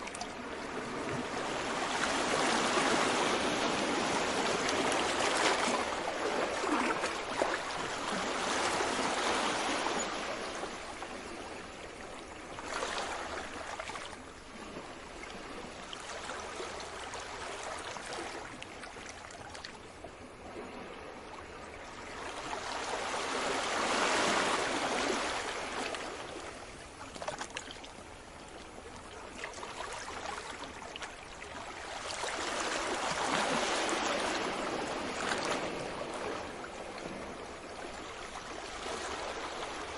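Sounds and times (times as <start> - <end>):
sea waves on shore: 0.0 - 39.9.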